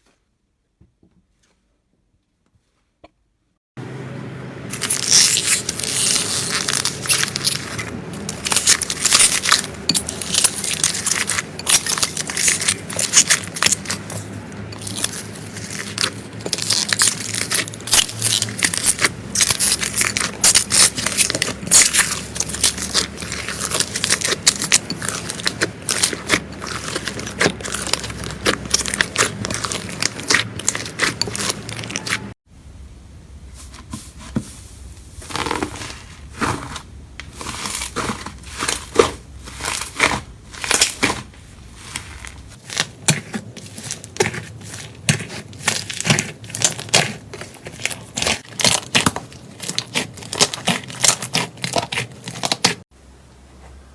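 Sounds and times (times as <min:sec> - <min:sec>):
slime squeezed crackling: 0:04.7 - 0:32.4, 0:35.2 - 0:52.8.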